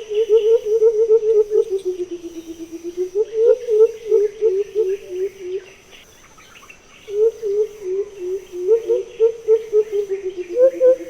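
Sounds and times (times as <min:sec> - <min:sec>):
bird low hooting calls: 0:00.0 - 0:11.0
high insect trill: 0:00.0 - 0:11.0.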